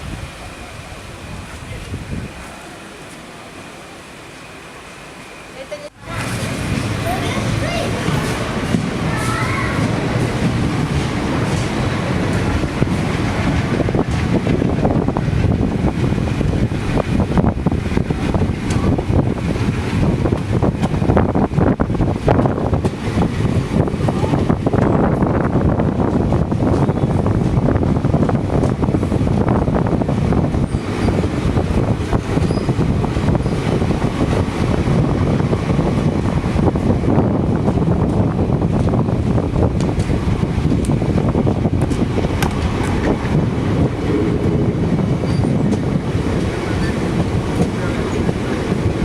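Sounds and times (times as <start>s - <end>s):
wind buffeting microphone: 0.0s - 3.5s, 5.7s - 49.0s
train rumbling on track: 0.0s - 49.0s
wheels rattling and clicking: 6.0s - 49.0s.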